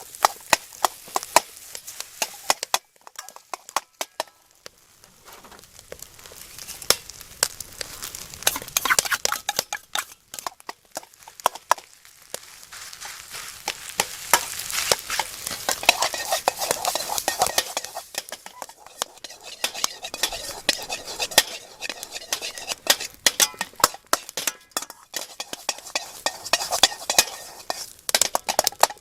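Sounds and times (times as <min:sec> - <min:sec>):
metal spatula scraping wok: 0:00.0 - 0:04.5, 0:05.1 - 0:11.9, 0:12.9 - 0:29.0
food sizzling: 0:00.0 - 0:29.0.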